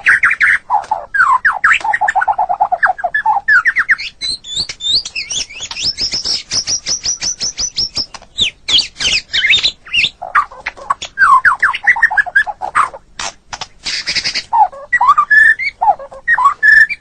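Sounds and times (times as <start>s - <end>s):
songbird singing varied song: 0.0s - 13.2s, 13.8s - 17.0s.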